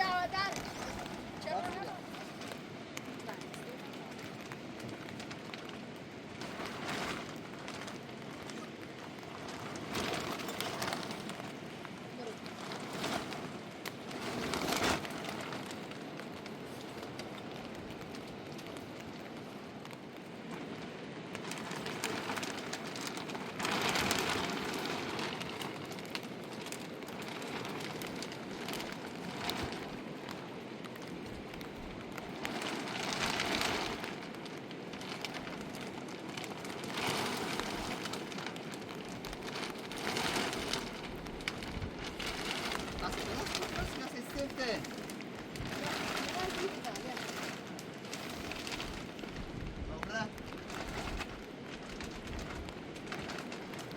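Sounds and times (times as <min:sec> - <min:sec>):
rain pattering: 0:00.0 - 0:53.9.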